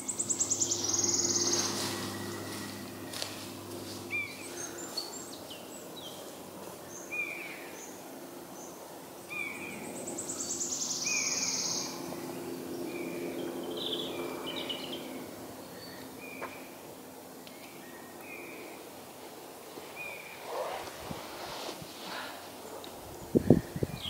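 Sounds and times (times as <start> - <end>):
songbirds singing: 0.0 - 18.9, 22.6 - 24.0.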